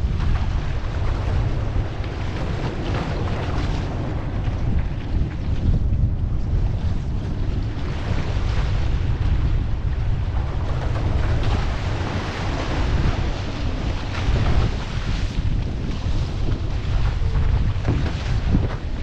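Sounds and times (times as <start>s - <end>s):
choppy water splashing on hull: 0.0s - 19.0s
wind buffeting microphone: 0.0s - 19.0s.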